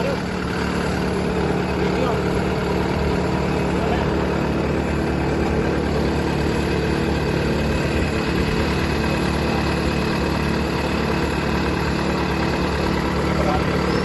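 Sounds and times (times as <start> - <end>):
pile driver engine running: 0.0 - 14.0.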